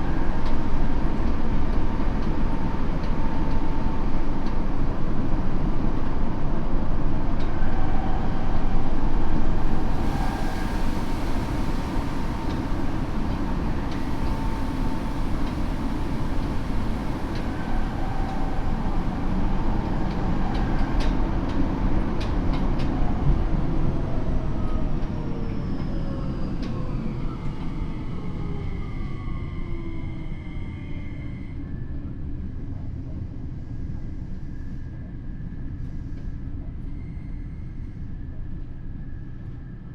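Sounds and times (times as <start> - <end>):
train wheels rumbling on rail: 0.0 - 39.6.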